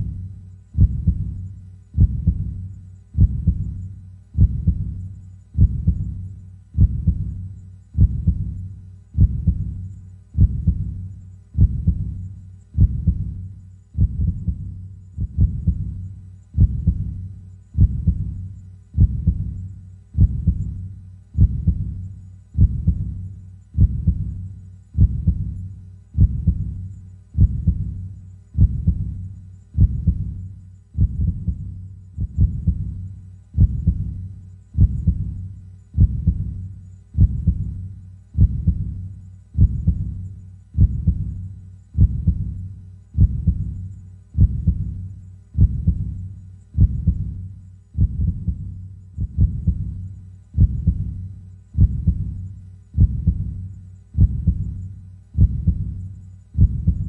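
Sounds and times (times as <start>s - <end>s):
slow heartbeat thuds: 0.0s - 57.0s.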